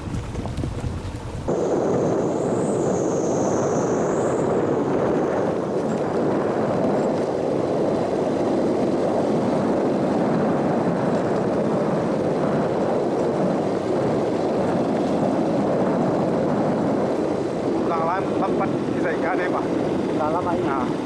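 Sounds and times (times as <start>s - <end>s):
vehicle driving on dirt road: 0.0s - 21.0s.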